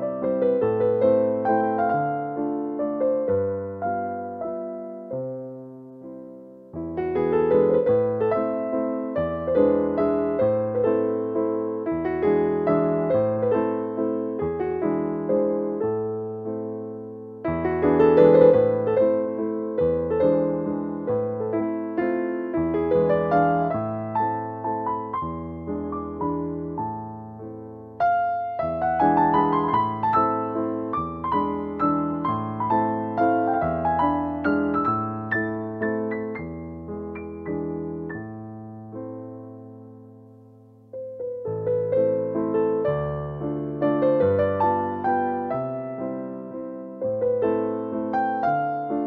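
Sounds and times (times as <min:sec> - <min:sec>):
electric piano melody: 0:00.0 - 0:49.0.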